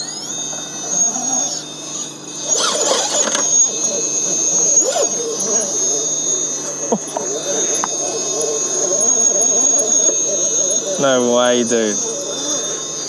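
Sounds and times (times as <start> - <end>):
electric motor whining: 0.0 - 13.0
grinding: 0.0 - 13.0.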